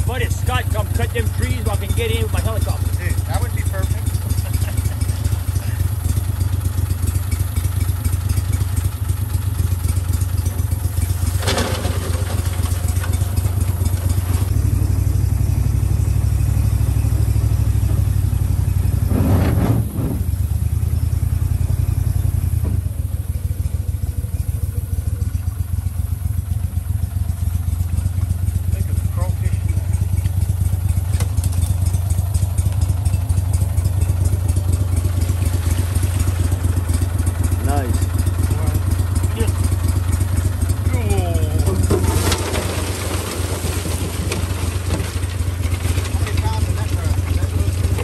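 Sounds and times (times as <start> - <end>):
boat motor running: 0.0 - 20.2, 20.9 - 42.1, 44.3 - 48.0.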